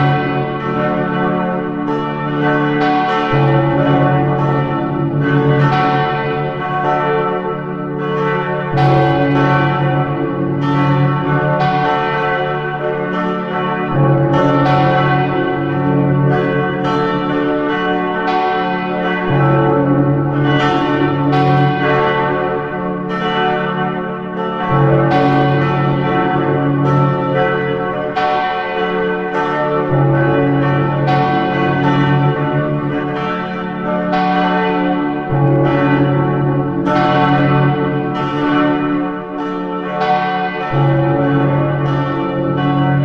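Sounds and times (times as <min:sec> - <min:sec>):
church bells pealing: 0:00.0 - 0:43.0.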